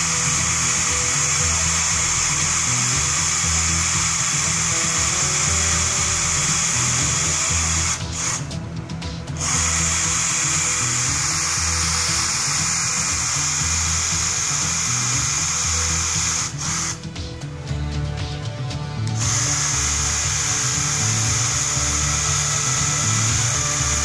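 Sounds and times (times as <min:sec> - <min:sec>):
cordless drill boring: 0:00.0 - 0:17.6, 0:19.0 - 0:24.0
background music: 0:00.0 - 0:24.0.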